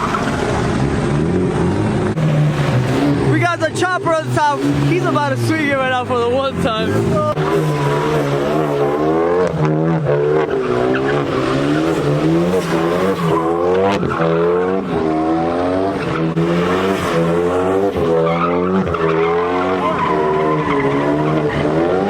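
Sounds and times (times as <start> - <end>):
car engine revving: 0.0 - 22.0
tyres screeching: 2.5 - 22.0.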